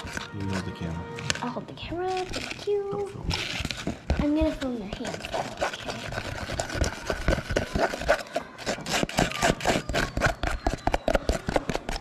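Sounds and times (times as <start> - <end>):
plastic utensil scraping paste in tub: 0.0 - 12.0.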